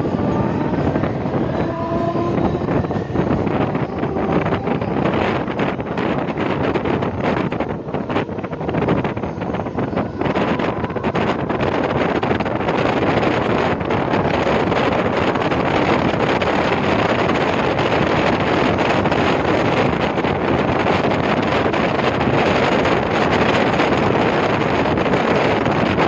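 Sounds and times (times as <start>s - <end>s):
electric train running at speed: 0.0s - 26.0s
wind buffeting on microphone: 0.0s - 26.0s.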